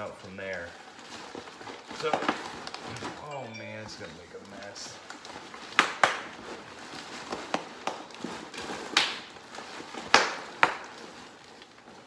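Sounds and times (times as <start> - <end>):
bubble wrap rustling and crinkling: 0.0 - 12.0
bubble wrap sharp crackles: 0.0 - 12.0.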